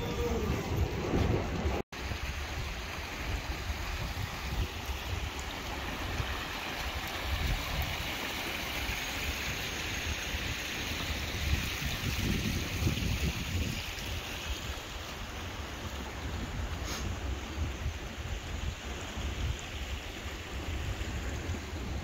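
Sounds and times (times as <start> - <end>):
fountain water splashing: 1.5 - 22.0.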